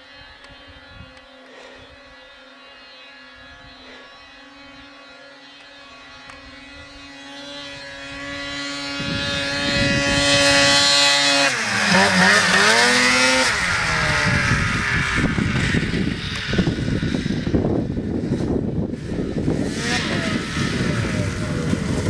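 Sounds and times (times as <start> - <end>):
snowmobile engine running hard: 0.0 - 22.0.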